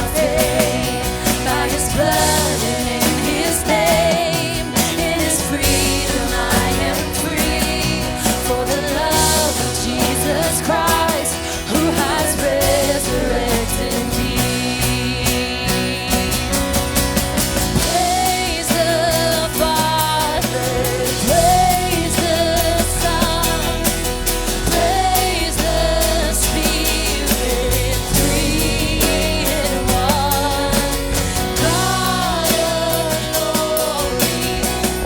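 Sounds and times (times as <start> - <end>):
drum beat: 0.0 - 35.0
live worship band music: 0.0 - 35.0.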